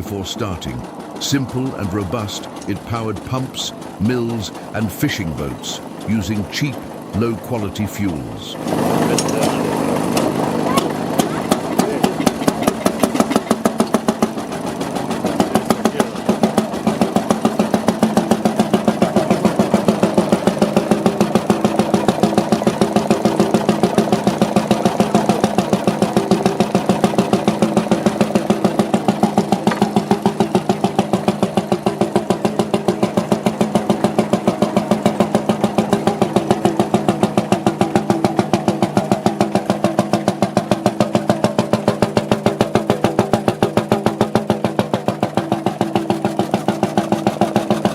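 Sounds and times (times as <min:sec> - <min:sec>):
stationary engine running slowly: 0:00.0 - 0:47.9.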